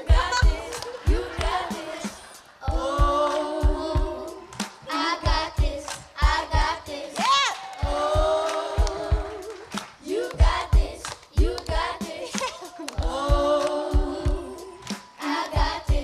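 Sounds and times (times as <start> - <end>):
low repeating beat: 0.0 - 7.0, 7.8 - 16.0
children and woman singing: 0.0 - 16.0.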